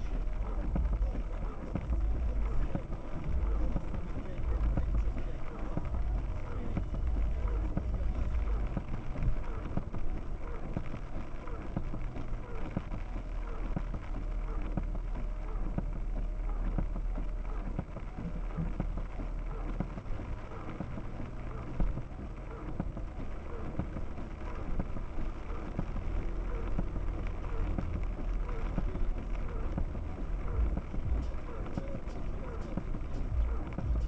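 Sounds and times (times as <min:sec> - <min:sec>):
diesel engine rumble: 0:00.0 - 0:34.0.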